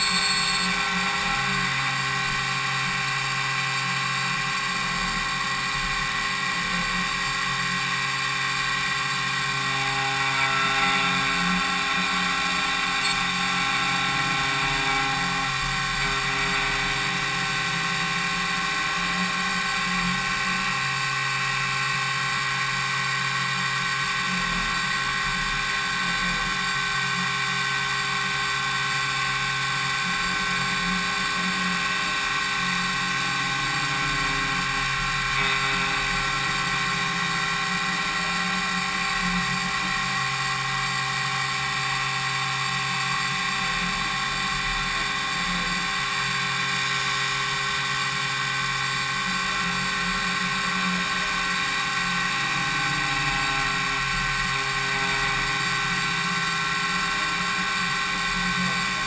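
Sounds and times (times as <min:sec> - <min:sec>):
milling machine spindle whine: 0:00.0 - 0:59.0.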